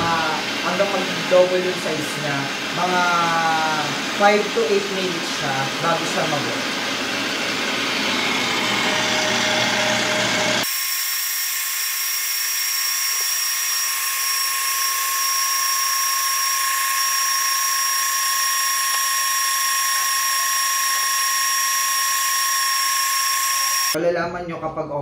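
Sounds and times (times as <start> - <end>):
stand mixer motor whining: 0.0 - 24.0.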